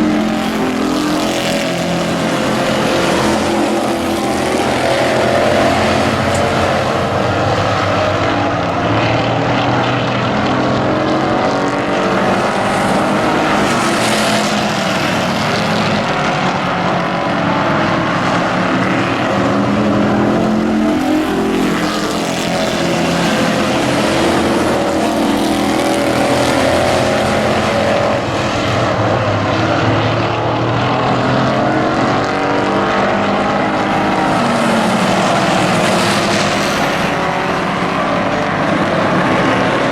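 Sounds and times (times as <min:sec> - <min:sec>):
race truck engines passing: 0:00.0 - 0:39.9.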